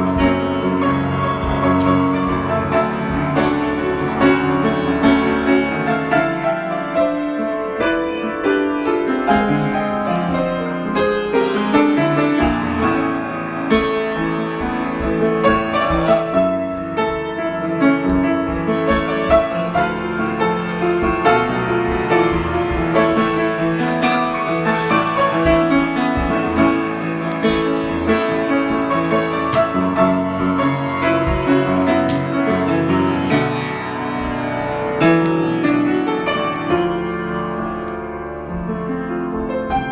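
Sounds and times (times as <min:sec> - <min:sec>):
improvised piano playing: 0:00.0 - 0:39.9.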